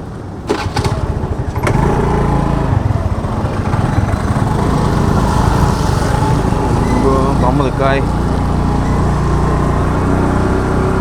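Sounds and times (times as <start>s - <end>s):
scooter engine running: 0.0s - 11.0s.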